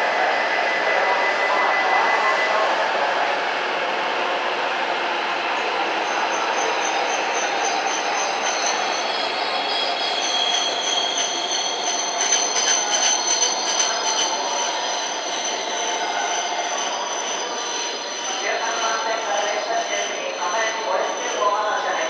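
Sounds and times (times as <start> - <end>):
train rolling noise: 0.0 - 22.0.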